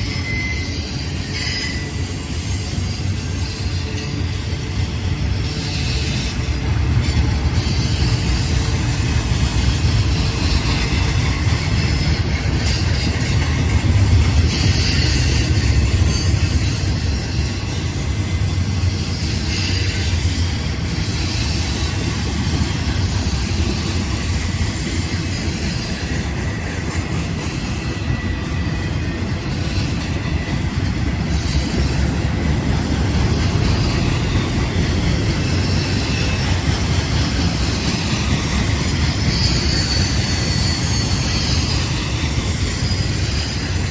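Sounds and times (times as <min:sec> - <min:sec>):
train wheels rumbling on rail: 0:00.0 - 0:43.9
wheel squeal: 0:00.0 - 0:43.9.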